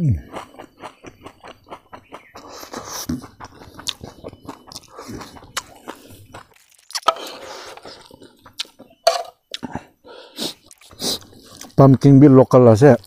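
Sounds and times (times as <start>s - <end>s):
person chewing crunchy food: 0.1s - 11.8s.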